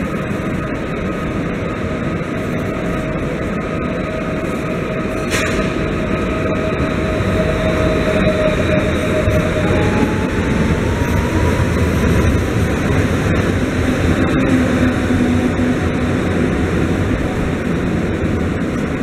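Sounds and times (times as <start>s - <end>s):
traction motor whine: 0.0s - 19.0s
train wheels rumbling on rails: 0.0s - 19.0s.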